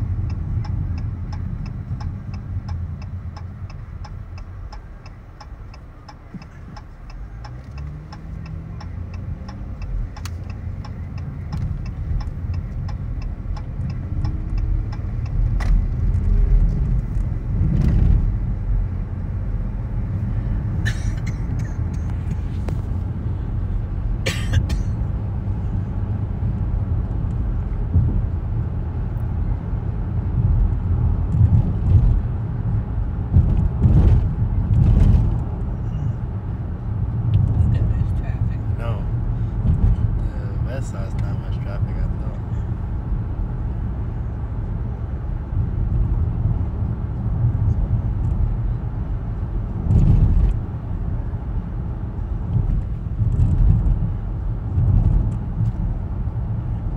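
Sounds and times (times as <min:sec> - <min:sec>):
car engine accelerating: 0:00.0 - 0:24.2, 0:24.9 - 0:56.9
road rumble: 0:00.0 - 0:56.9
turn signal ticking: 0:00.0 - 0:56.9.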